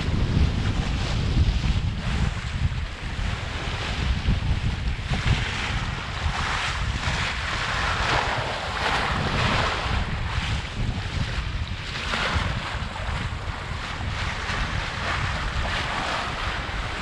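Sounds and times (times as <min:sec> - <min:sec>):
bow wave rushing and splashing: 0:00.0 - 0:17.0
wind buffeting microphone: 0:00.0 - 0:17.0.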